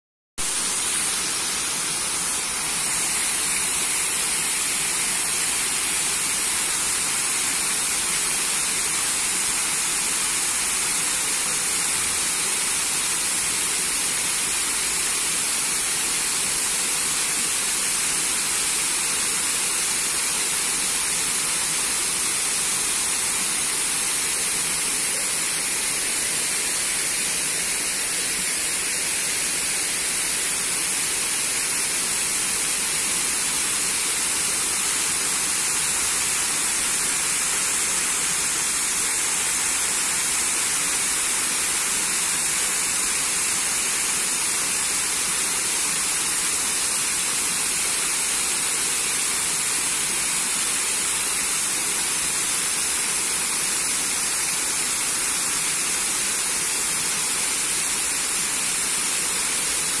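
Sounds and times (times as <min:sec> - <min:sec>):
waterfall splashing into pond: 0:00.4 - 1:00.0.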